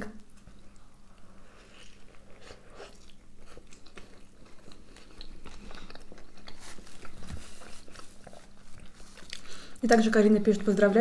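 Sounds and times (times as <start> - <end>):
people chewing burgers: 0.2 - 9.8.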